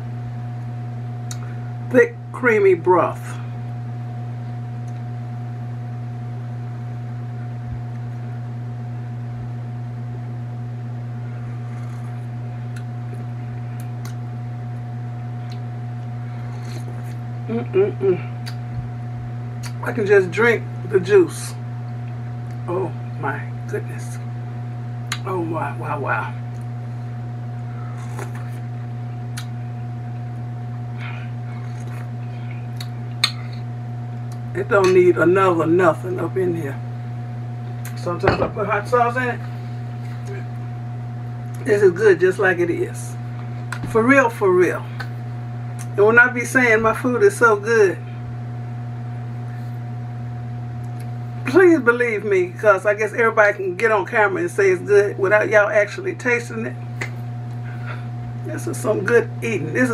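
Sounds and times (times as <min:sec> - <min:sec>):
loud low hum: 0:00.0 - 0:59.9.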